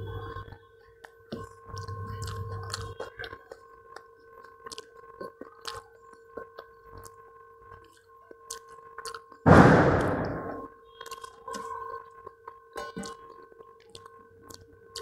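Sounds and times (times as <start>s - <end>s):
faint steady hum: 0.0s - 15.0s
mouth chewing: 0.1s - 9.4s, 10.9s - 15.0s.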